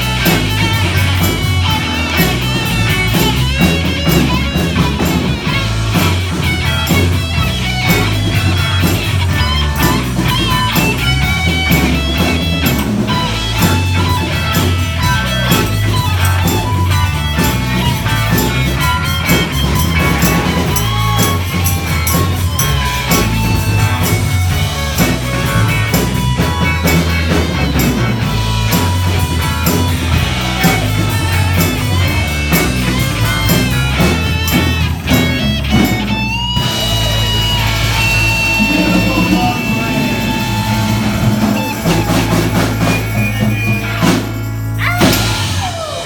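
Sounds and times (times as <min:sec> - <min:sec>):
drum kit: 0:00.0 - 0:46.0
live band playing soul song: 0:00.0 - 0:46.0
steady bass: 0:00.0 - 0:46.0.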